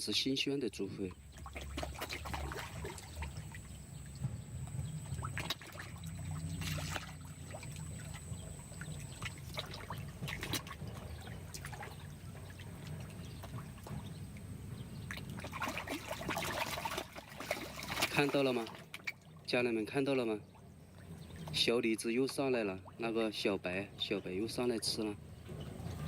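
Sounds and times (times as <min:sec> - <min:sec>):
water trickling and splashing: 0:00.9 - 0:26.0.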